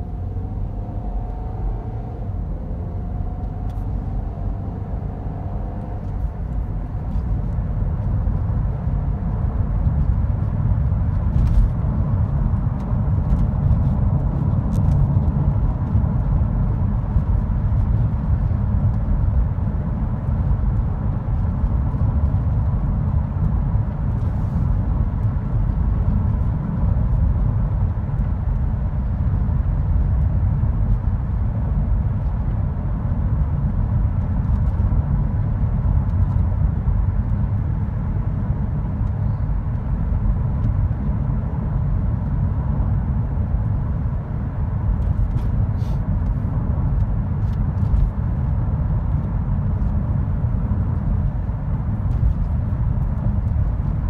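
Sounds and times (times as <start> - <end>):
car interior road noise: 0.0 - 54.0.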